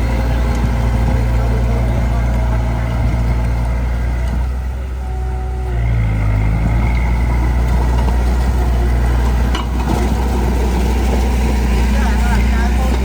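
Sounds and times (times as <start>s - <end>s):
heavy machine engine humming: 0.0s - 13.0s.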